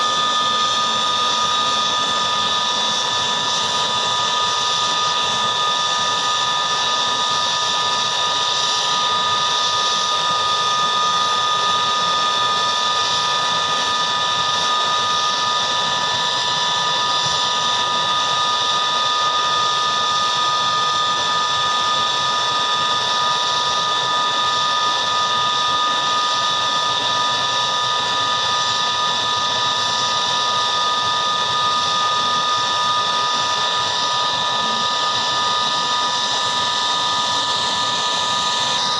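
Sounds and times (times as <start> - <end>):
helicopter turbine engines idling: 0.0 - 38.9.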